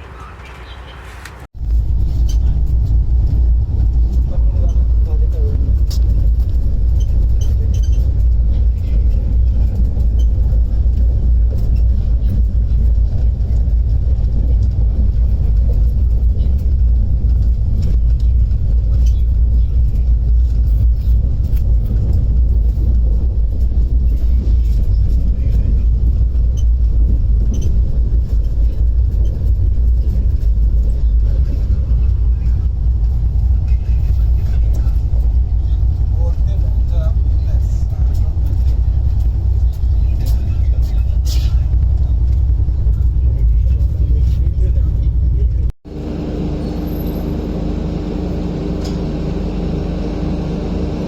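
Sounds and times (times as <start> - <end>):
passenger train running: 2.3 - 51.0.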